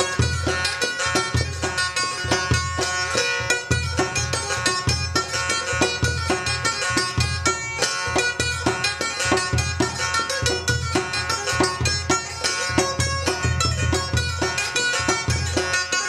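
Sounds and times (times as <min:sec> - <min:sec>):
goblet drum beating: 0:00.0 - 0:15.8.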